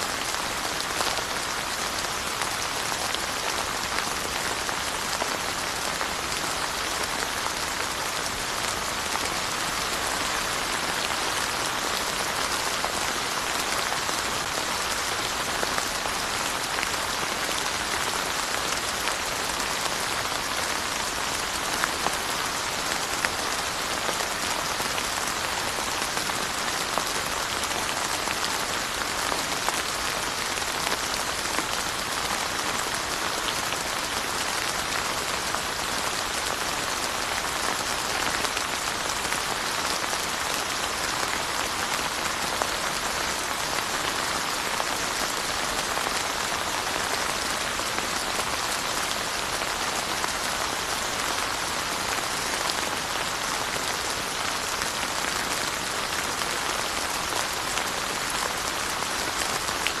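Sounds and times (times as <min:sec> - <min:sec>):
rain pattering: 0:00.0 - 1:00.0.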